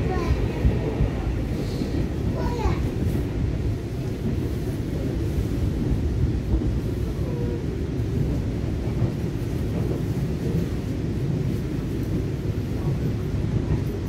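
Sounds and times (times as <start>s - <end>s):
train rumble inside cabin: 0.0s - 14.0s.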